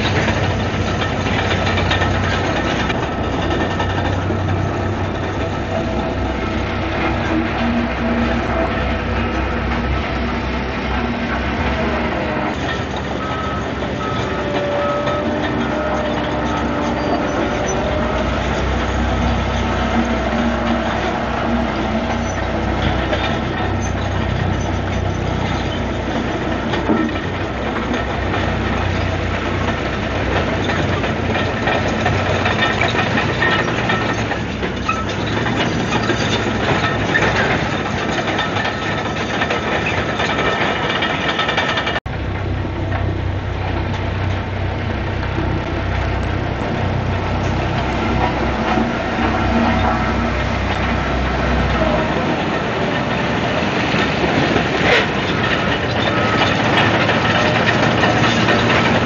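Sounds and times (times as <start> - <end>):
bulldozer diesel engine: 0.0 - 59.0
steel tracks clattering: 0.0 - 59.0.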